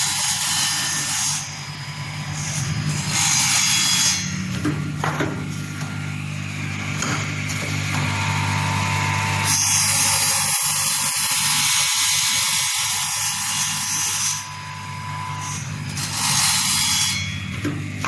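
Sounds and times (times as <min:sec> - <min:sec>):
saw blade cutting wood: 0:00.0 - 0:18.0
saw motor humming: 0:00.0 - 0:18.0.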